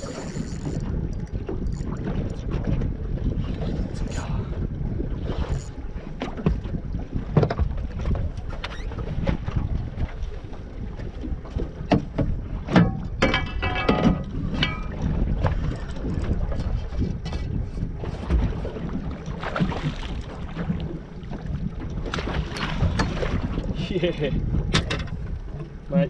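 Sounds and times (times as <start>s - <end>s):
water slapping boat hull: 0.0s - 26.0s
wind buffeting microphone: 0.0s - 26.0s.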